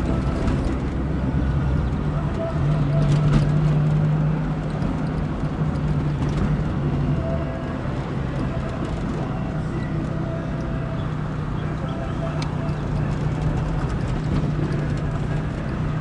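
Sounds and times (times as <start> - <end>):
engine drone inside vehicle cab: 0.0 - 16.0.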